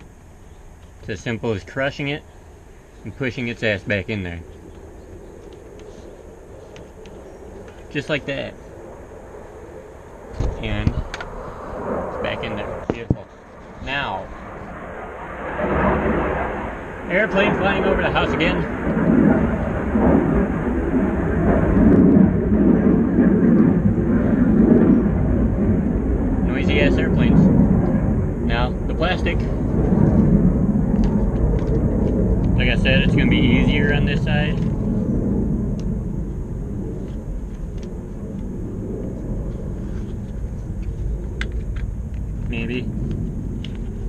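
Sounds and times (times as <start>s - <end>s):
airplane rumble overhead: 0.0s - 44.0s.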